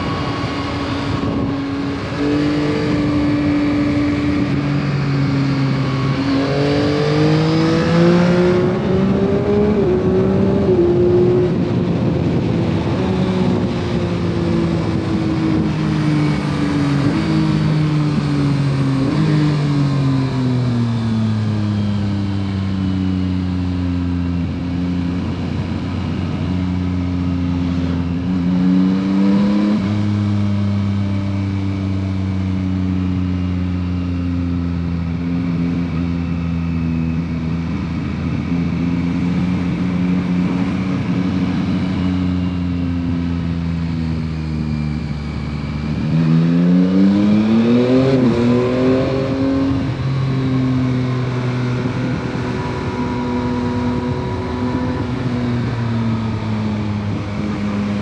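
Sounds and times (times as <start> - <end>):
motorcycle engine cruising and revving: 0.0 - 58.0.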